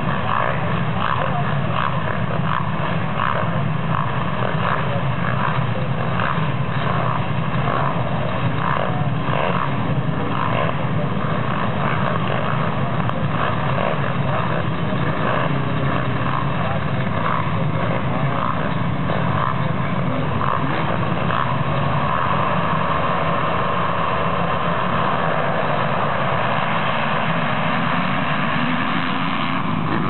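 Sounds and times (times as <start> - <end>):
motocross engines revving: 0.0 - 30.0.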